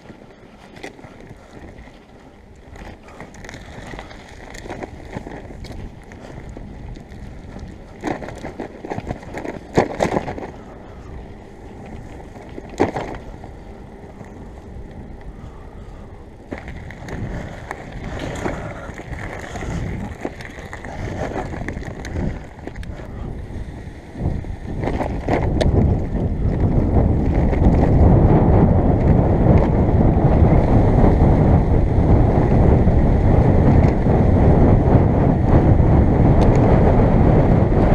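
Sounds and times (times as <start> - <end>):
bicycle knocks and rattles: 0.0 - 37.9
bicycle tyre rumble: 0.0 - 37.9
wind buffeting microphone: 0.0 - 37.9.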